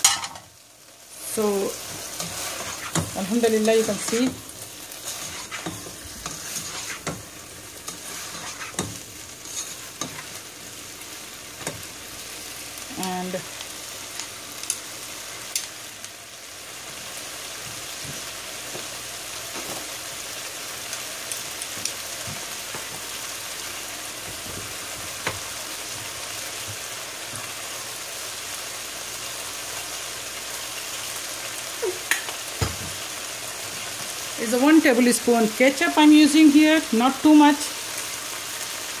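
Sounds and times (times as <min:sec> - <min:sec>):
food sizzling in a pan: 0:00.0 - 0:39.0.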